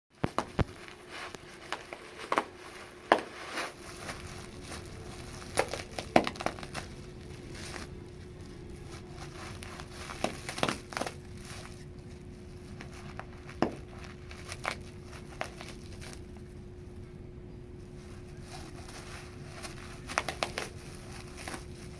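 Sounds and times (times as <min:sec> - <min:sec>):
bubble wrap crinkling and popping: 0:00.2 - 0:16.8, 0:17.9 - 0:21.9
faint steady hum: 0:00.2 - 0:21.9.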